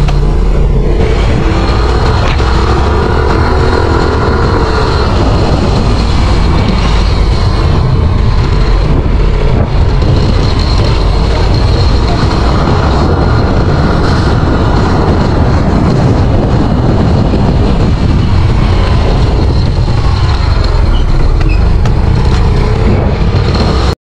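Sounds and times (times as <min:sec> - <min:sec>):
motorcycle engine running: 0:00.0 - 0:24.0
wind on microphone: 0:00.0 - 0:24.0.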